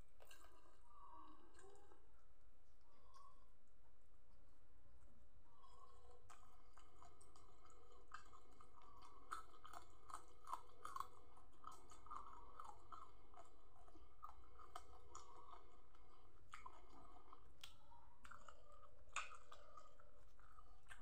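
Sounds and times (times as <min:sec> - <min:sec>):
person chewing and crunching food: 0:00.0 - 0:03.5, 0:04.9 - 0:21.0.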